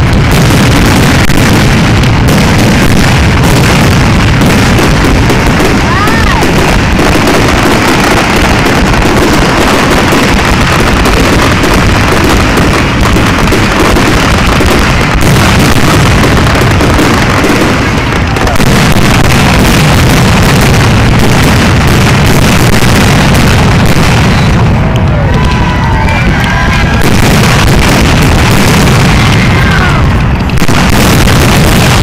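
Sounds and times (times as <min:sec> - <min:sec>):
fireworks explosions roll: 0:00.0 - 0:32.0.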